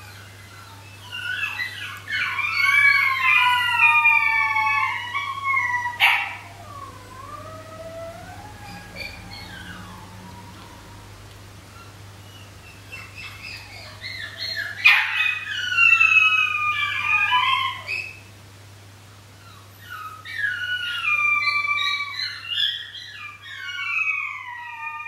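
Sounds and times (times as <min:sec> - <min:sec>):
puppies howling: 0:00.0 - 0:18.3, 0:19.4 - 0:25.0
low steady hum: 0:00.0 - 0:22.4.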